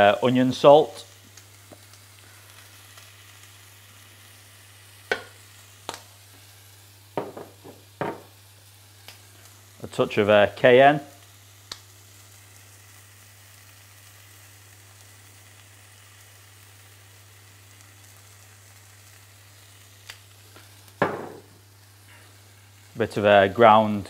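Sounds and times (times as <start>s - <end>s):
chicken sizzling on a griddle: 0.0s - 24.0s.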